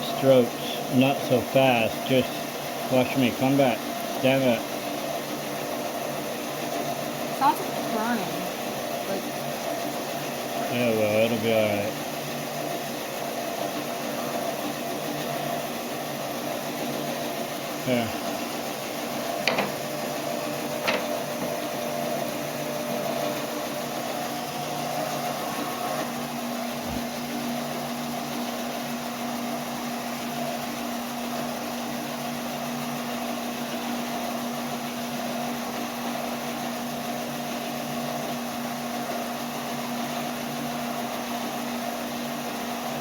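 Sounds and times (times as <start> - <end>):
heat gun humming and blowing: 0.0 - 43.0.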